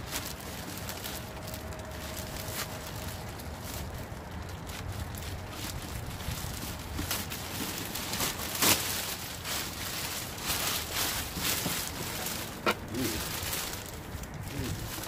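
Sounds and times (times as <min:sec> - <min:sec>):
bags rustling and crinkling: 0:00.0 - 0:15.0
sharp crackles: 0:00.0 - 0:15.0.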